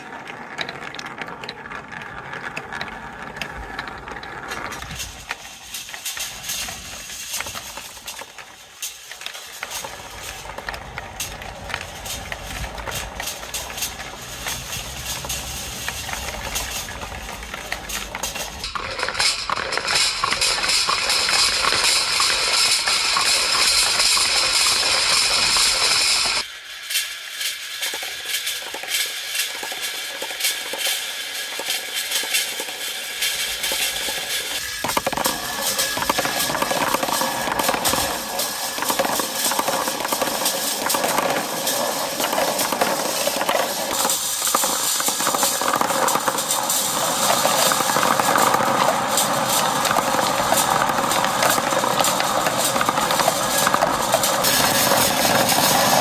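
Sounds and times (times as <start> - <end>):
marbles clicking and knocking: 0.0 - 56.0
marbles rolling on track: 0.0 - 56.0.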